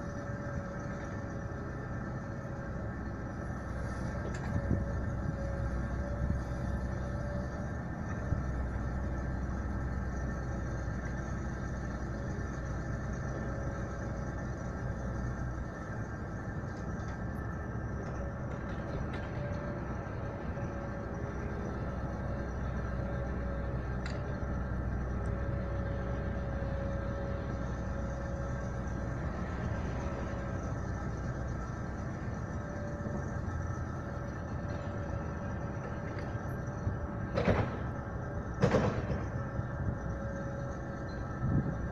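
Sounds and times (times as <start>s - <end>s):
heavy diesel engines rumbling: 0.0s - 41.9s.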